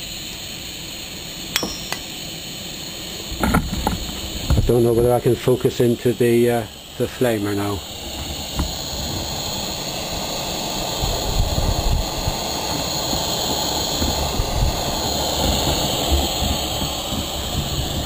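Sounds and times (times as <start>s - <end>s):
gas burner flame hissing: 0.0s - 18.0s.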